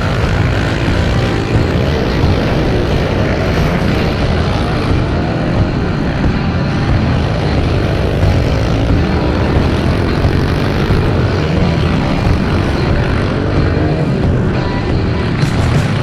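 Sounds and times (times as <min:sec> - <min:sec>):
pit bike engines revving: 0:00.0 - 0:16.0.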